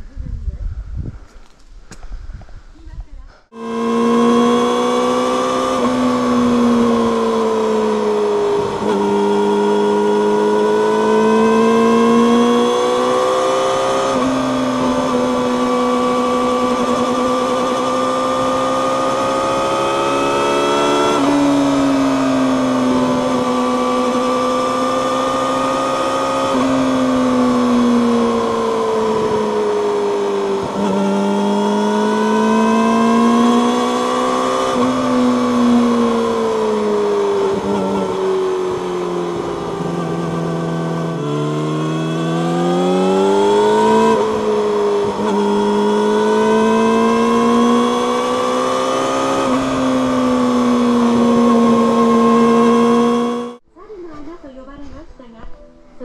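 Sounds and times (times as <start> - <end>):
motorcycle engine revving: 3.4 - 53.6.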